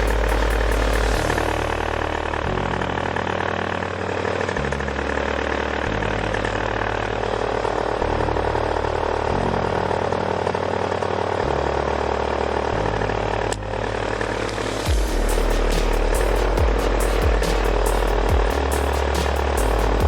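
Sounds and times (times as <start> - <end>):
background music with bass: 0.0 - 20.0.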